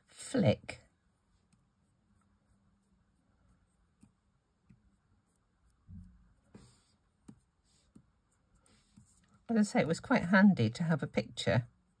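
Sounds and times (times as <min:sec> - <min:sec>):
paintbrush scratching on card: 0:00.9 - 0:12.0.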